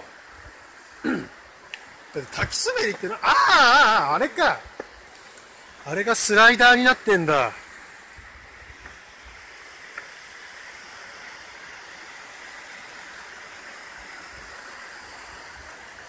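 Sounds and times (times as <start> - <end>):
distant waterfall rushing: 0.0 - 16.0.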